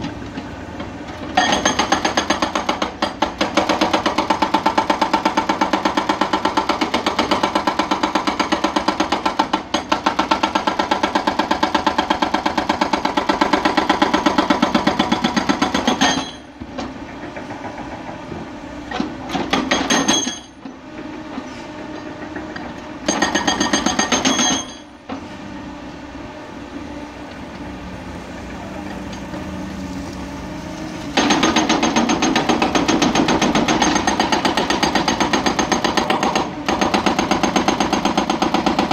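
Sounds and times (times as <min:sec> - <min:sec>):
hydraulic breaker hammering rock: 0:01.1 - 0:24.9, 0:31.2 - 0:38.9.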